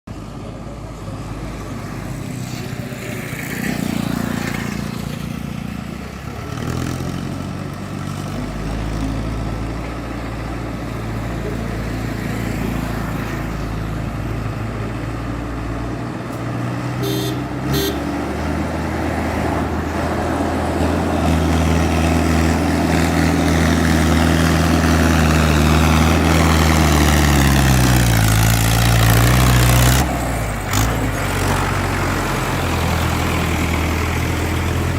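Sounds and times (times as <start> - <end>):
tractor diesel engine running: 4.0 - 34.9.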